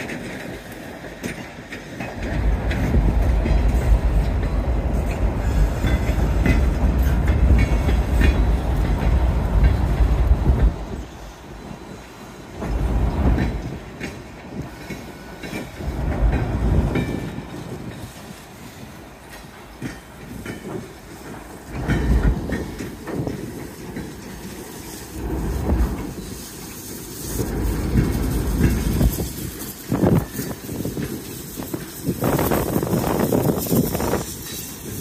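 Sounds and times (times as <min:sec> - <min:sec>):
wind buffeting microphone: 0:00.0 - 0:12.0, 0:12.6 - 0:35.0
freight train wheels clicking: 0:00.0 - 0:35.0.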